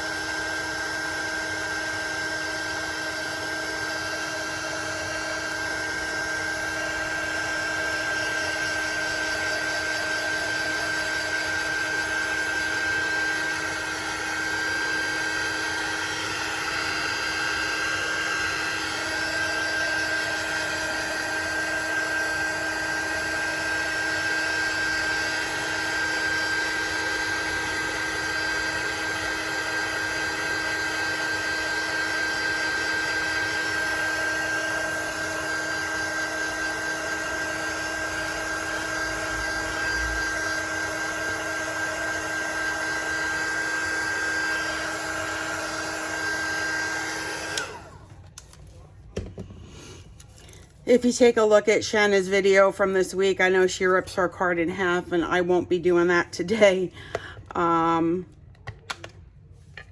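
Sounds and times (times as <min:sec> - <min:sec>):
heat gun whirring and whining: 0:00.0 - 0:48.6, 0:55.1 - 0:59.9.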